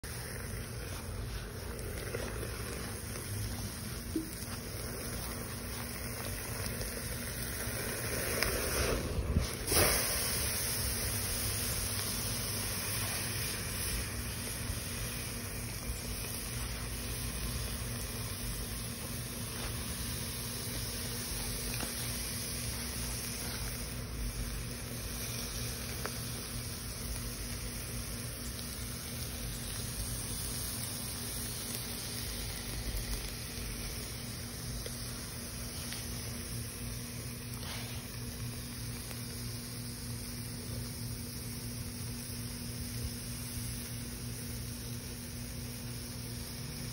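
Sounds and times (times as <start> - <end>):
meat sizzling on a grill: 0.0 - 46.9.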